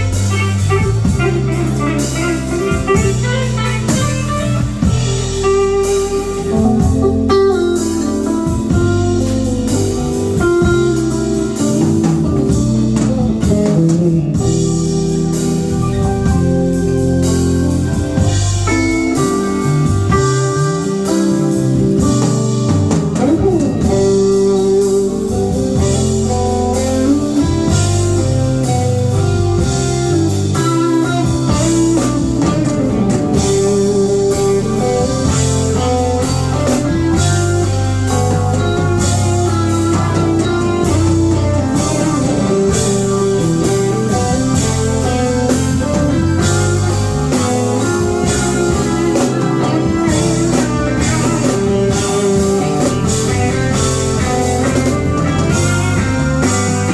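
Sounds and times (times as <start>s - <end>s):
drum kit with cymbals: 0.0s - 56.9s
guitar lines: 0.0s - 56.9s
steady bass: 0.0s - 56.9s.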